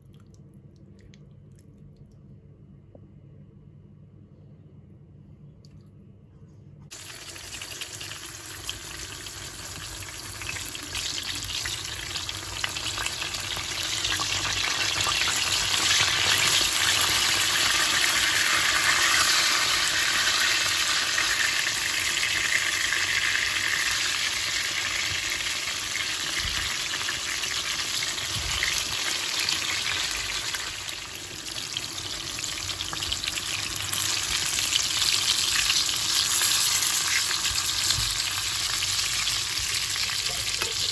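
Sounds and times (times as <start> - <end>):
food sizzling in hot oil: 6.9 - 40.9.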